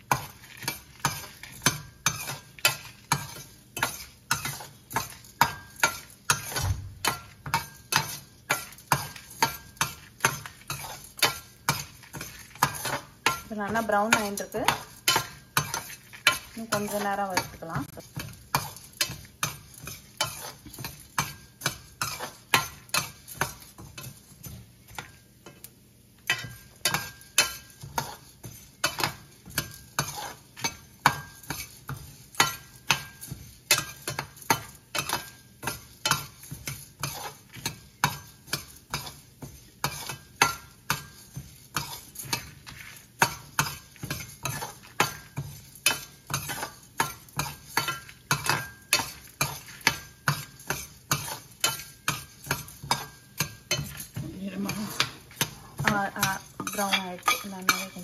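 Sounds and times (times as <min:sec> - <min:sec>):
spoon scraping grains in metal pan: 0:00.0 - 0:58.0.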